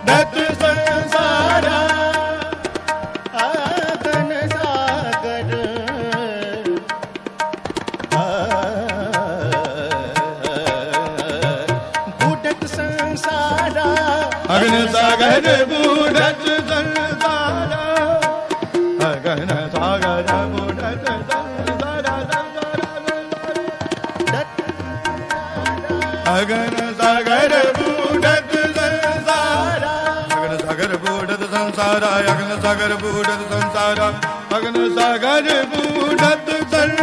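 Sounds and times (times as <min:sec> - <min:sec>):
tabla strokes: 0:00.0 - 0:37.0.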